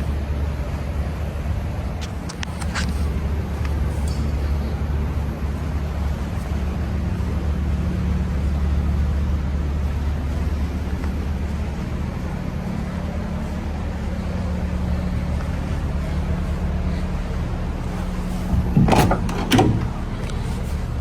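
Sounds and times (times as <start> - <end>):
race car engine idling: 0.0 - 21.0.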